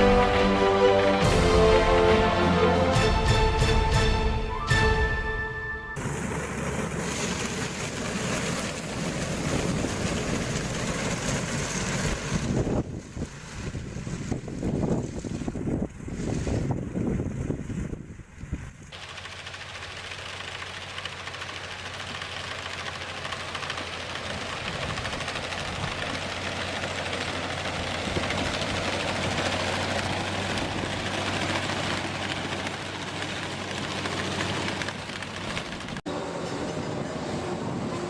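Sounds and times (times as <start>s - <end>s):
machinery humming: 0.0s - 12.9s, 19.0s - 38.0s.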